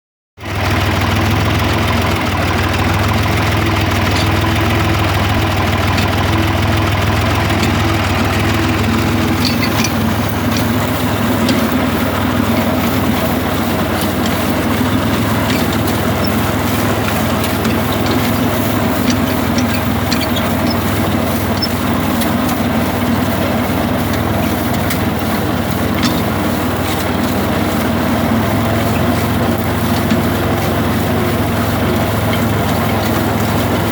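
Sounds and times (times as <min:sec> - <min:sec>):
tractor engine running: 0:00.4 - 0:33.9
light clicks and rattles: 0:03.6 - 0:33.9.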